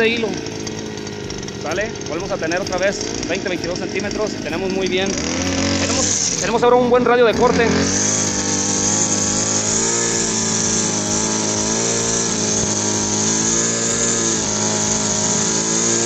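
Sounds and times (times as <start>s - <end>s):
brush cutter running: 0.0s - 16.0s.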